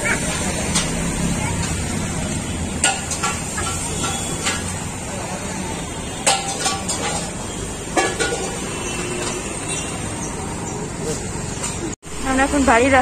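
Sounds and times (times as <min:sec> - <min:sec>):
street market rumble: 0:00.0 - 0:13.0.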